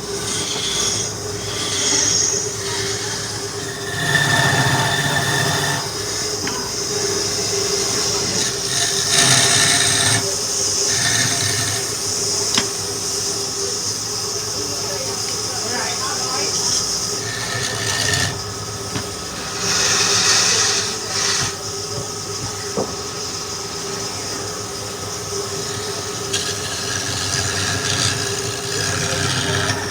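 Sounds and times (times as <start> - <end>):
turning tool scraping wood: 0.0 - 13.4, 14.7 - 23.0, 24.0 - 29.9
wood lathe humming: 0.0 - 29.9.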